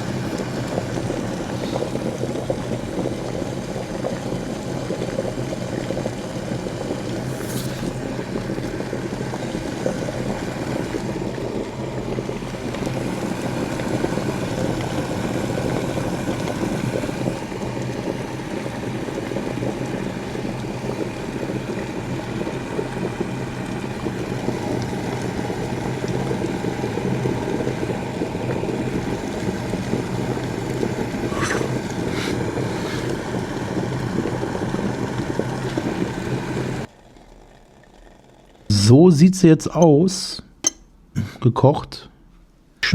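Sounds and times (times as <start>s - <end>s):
kettle boiling: 0.0s - 40.4s.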